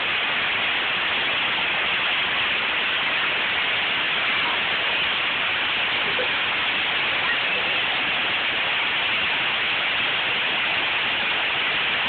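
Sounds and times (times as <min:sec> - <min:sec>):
torrential rain hissing: 0:00.0 - 0:12.0.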